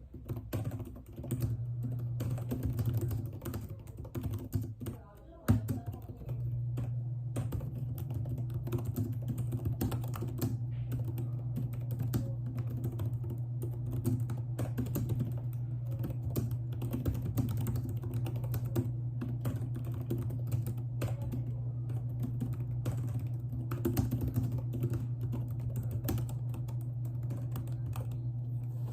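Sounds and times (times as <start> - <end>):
computer keyboard typing: 0.0 - 28.9
steady low hum: 0.0 - 28.9.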